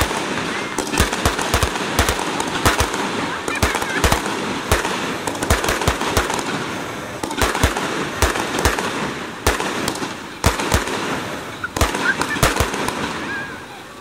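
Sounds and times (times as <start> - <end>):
crackling hiss: 0.0 - 14.0
firework bangs: 0.0 - 14.0.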